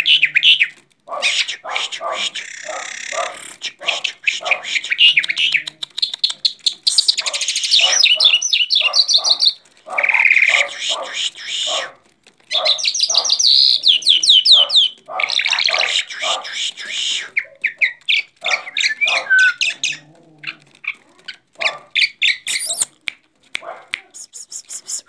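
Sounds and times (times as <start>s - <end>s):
bird singing trills and whistles: 0.0s - 11.8s, 12.5s - 20.0s, 21.6s - 23.0s.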